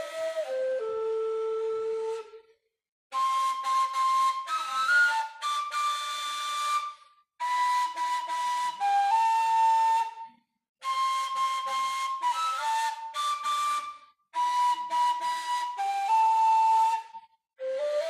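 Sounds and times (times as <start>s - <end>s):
breathy reed flute melody: 0.0s - 18.0s.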